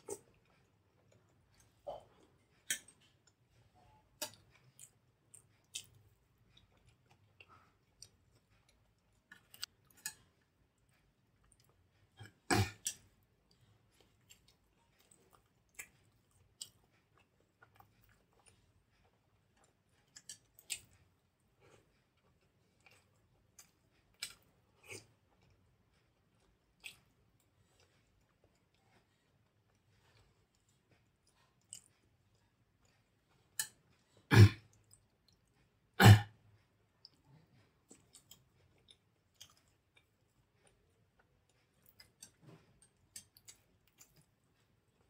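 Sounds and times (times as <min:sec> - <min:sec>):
chewing and wet mouth sounds: 0:00.0 - 0:45.0.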